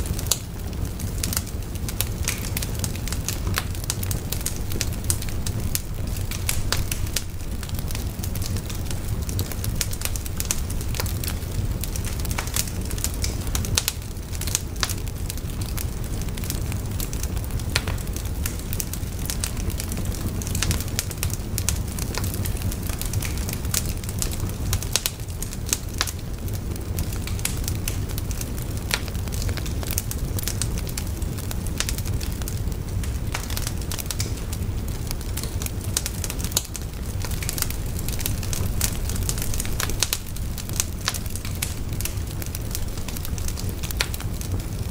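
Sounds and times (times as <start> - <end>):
fire crackling and popping: 0.0 - 44.9
low rumble of burning: 0.0 - 44.9.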